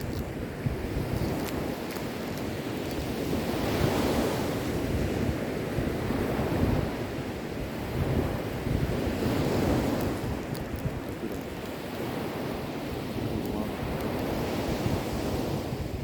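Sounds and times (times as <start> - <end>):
sea waves breaking on shore: 0.0 - 16.0
wind on microphone: 0.0 - 16.0.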